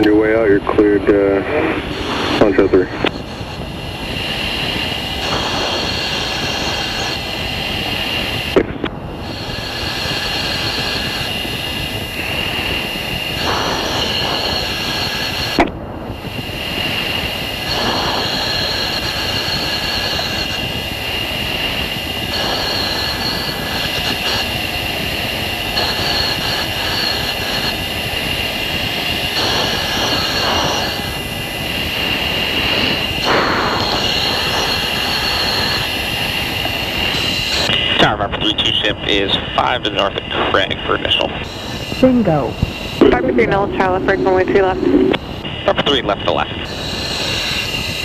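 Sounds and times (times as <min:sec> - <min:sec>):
high-pitched whines: 0:00.0 - 0:48.0
jet engine and cockpit air rush: 0:00.0 - 0:48.0.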